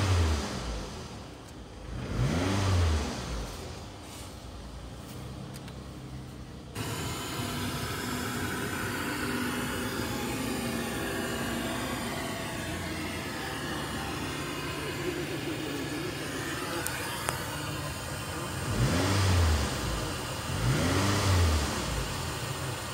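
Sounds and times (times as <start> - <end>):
car engine idling and revving: 0.0 - 22.9.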